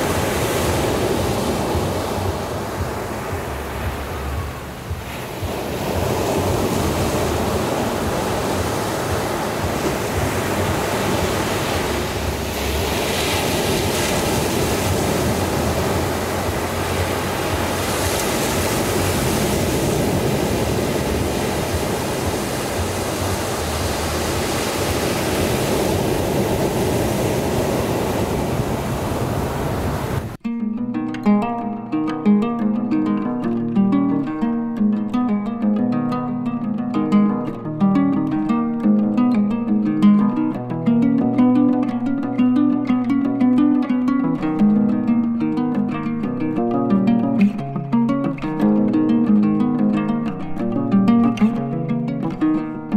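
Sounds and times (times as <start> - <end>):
ocean surf rushing: 0.0 - 30.4, 31.4 - 52.9.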